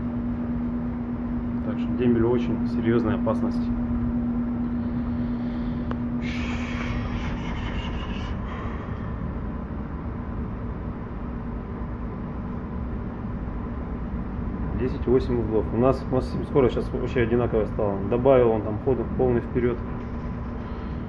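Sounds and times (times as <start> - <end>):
low ship engine rumble: 0.0 - 21.0
steady hum: 0.0 - 21.0.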